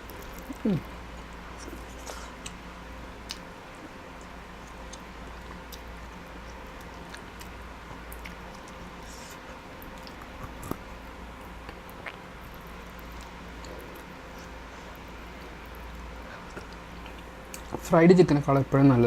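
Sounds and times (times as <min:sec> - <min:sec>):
person chewing food: 0:00.0 - 0:17.8
low room hum: 0:00.0 - 0:19.0.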